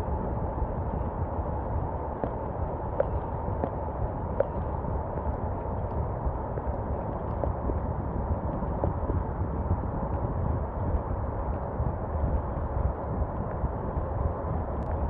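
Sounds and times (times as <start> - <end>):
low fluctuating rumble: 0.0 - 15.0.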